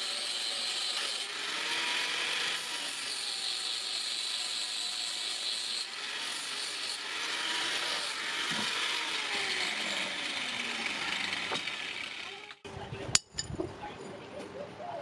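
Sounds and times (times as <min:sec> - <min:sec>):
angle grinder grinding steel: 0:00.0 - 0:12.6.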